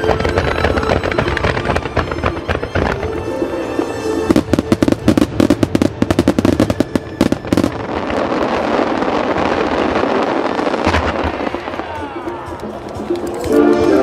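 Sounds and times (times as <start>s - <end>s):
fireworks cracking: 0.0s - 14.0s
fireworks crackling: 0.0s - 14.0s.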